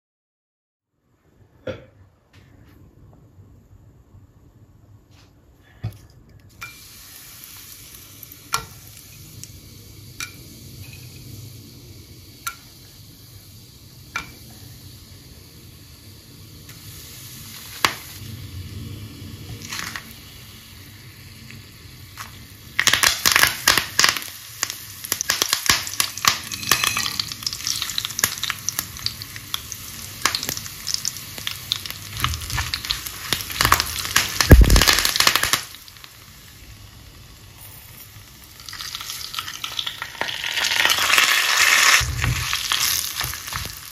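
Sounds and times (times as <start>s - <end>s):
spices sizzling in hot oil: 6.5s - 43.9s.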